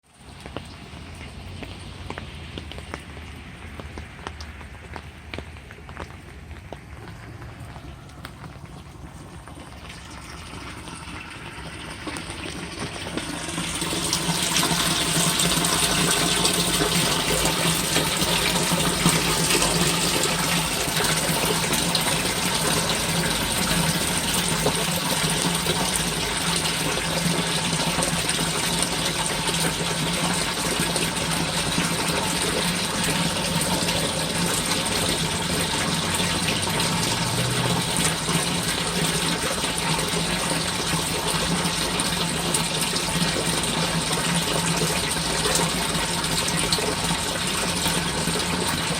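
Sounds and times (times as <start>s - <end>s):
rainwater gushing into pit: 0.0s - 48.9s.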